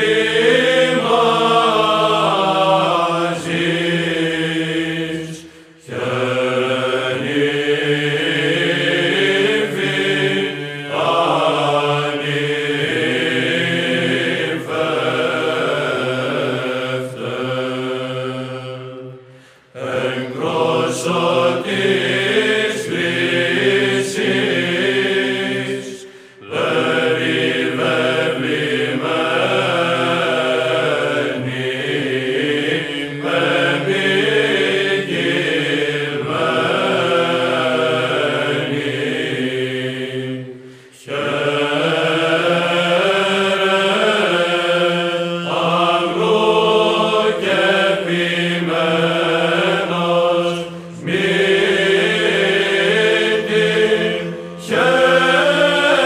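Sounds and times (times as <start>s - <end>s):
voices singing slow chant: 0.0s - 56.0s.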